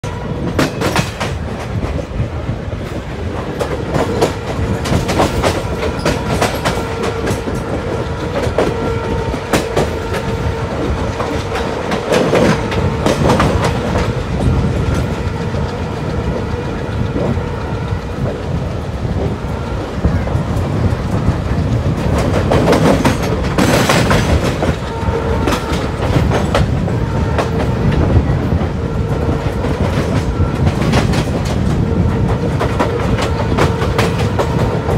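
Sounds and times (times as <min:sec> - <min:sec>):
train rumble: 0:00.0 - 0:34.9
train wheels clicking over joints: 0:00.3 - 0:34.9.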